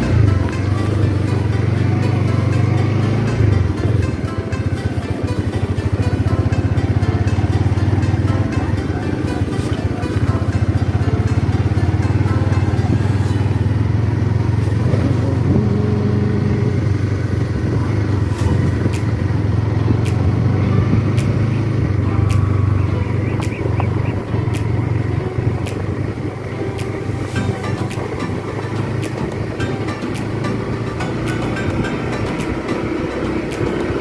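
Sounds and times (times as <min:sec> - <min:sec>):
motorcycle engine running: 0:00.0 - 0:34.0
sharp ticks: 0:00.0 - 0:34.0.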